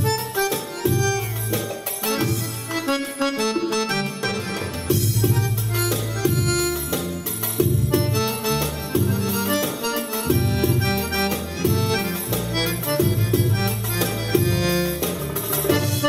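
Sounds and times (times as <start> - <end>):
belly-dance music on keyboard: 0.0 - 16.0.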